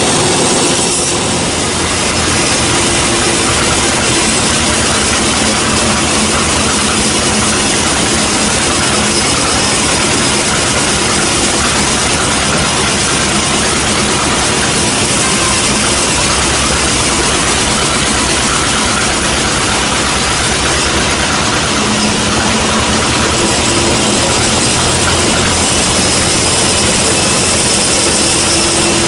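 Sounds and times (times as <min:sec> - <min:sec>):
band saw running: 0:00.0 - 0:29.0.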